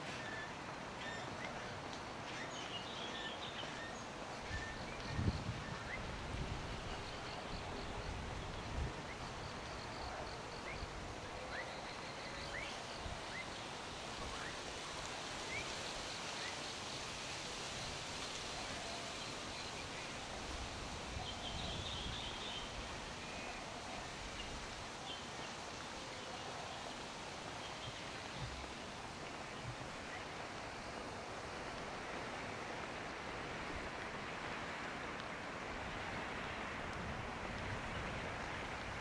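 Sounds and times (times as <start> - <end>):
outdoor background hiss: 0.0 - 39.0.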